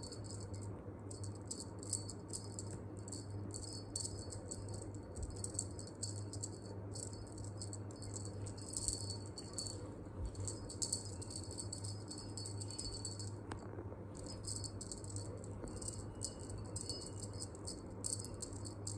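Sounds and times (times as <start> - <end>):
cat toy rattling and jingling: 0.0 - 13.4, 14.2 - 18.9.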